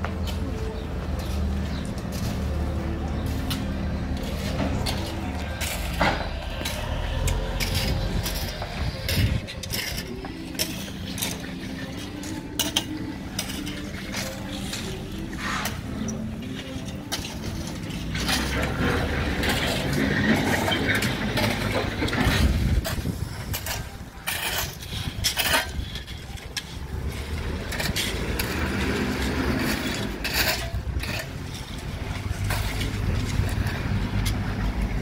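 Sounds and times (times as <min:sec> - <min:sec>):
traffic rumble: 0:00.0 - 0:35.0
shovels scraping crushed stone: 0:01.2 - 0:35.0.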